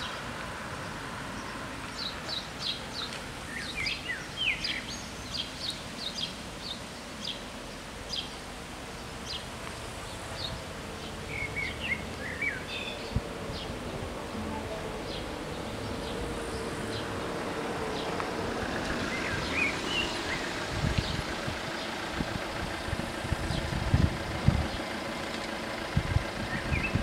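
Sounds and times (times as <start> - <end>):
outdoor background hiss: 0.0 - 27.0
small birds chirping: 0.8 - 14.0, 14.6 - 25.5, 26.4 - 27.0.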